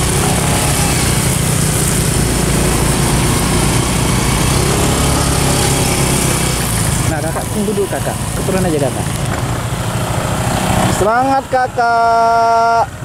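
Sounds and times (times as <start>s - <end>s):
scooter engines humming: 0.0s - 13.0s.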